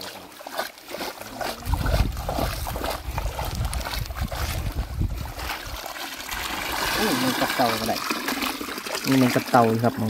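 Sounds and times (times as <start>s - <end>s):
water sloshing and trickling: 0.0s - 10.0s.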